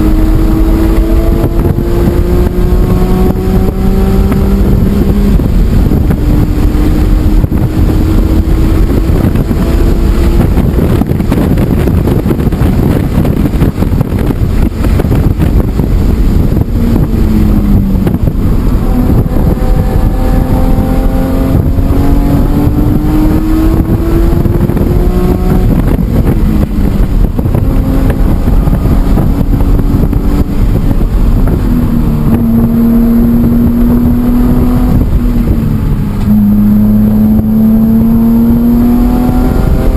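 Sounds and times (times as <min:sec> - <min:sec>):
car engine revving hard: 0:00.0 - 0:39.9
wind buffeting microphone: 0:00.0 - 0:39.9.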